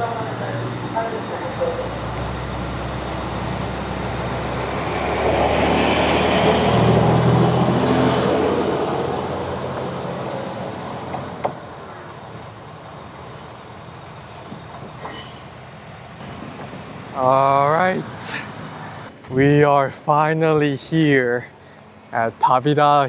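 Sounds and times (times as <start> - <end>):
diesel railcar engine: 0.0 - 23.0.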